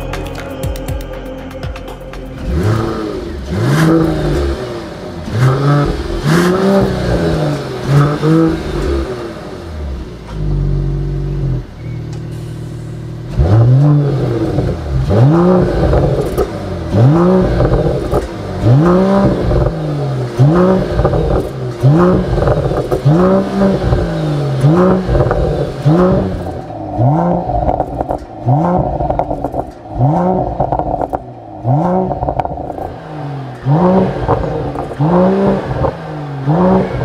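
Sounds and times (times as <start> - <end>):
exhaust cracks: 0.0 - 12.3, 12.9 - 37.0
car engine revving: 0.0 - 37.0.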